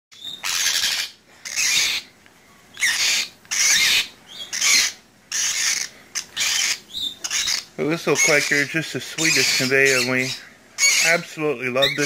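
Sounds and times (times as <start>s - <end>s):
parrot squawking: 0.1s - 2.1s, 2.7s - 12.0s.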